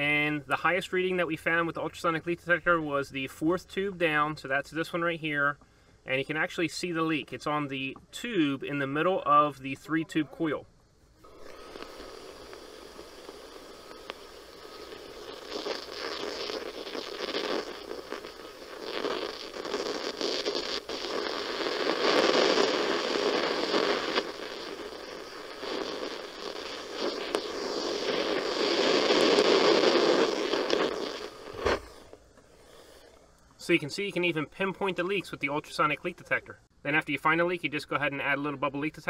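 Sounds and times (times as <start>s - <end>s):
leak detector crackling static hiss: 0.0s - 39.0s.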